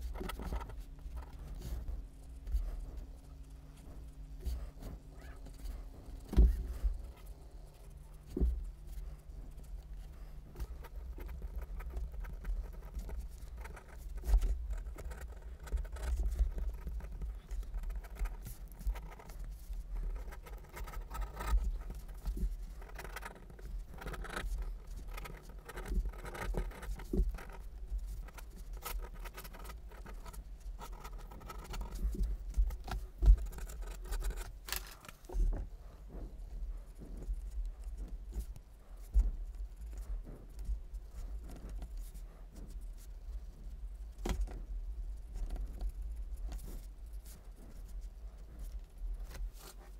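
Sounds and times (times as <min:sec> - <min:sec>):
pens scratching on paper: 0:00.0 - 0:42.8.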